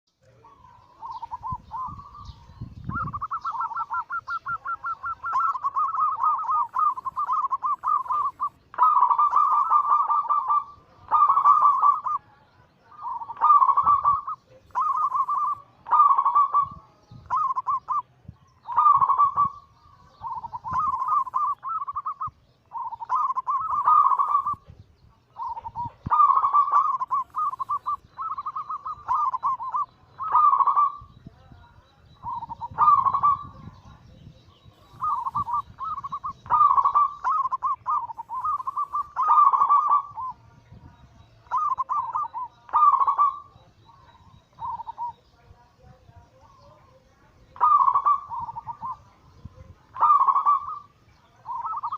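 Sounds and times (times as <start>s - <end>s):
doves cooing: 0.2s - 45.4s, 46.4s - 51.9s.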